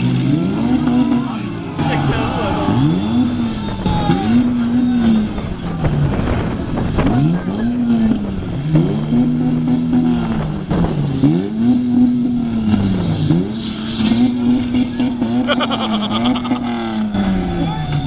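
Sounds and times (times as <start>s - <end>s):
car engines revving: 0.0s - 18.0s
cars crashing knocks: 0.8s - 15.6s.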